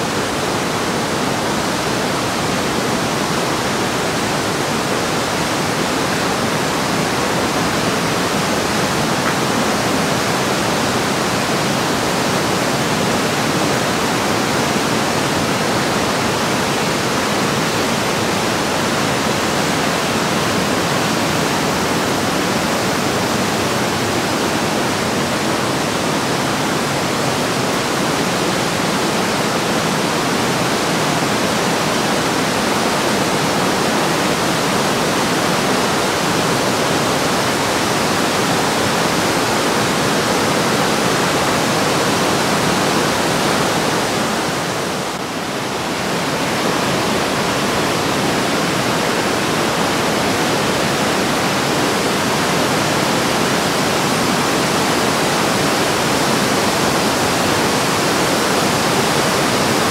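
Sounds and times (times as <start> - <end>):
river rushing over boulders: 0.0 - 59.9.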